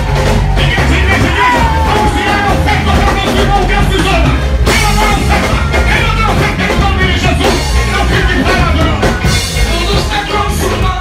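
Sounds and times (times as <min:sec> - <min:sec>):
drum kit beat: 0:00.0 - 0:11.0
keyboard playing: 0:00.0 - 0:11.0.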